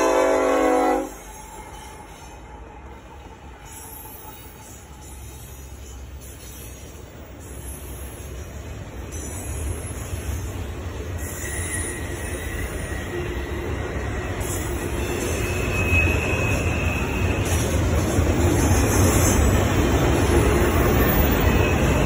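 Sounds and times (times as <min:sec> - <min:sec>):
freight train wheels rumbling: 0:00.0 - 0:22.0
high wheel squeals: 0:03.6 - 0:22.0.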